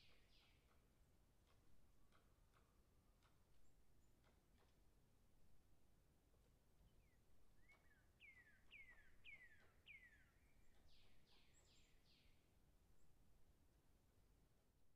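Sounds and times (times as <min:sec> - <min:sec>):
faint bird song: 0:00.0 - 0:14.5.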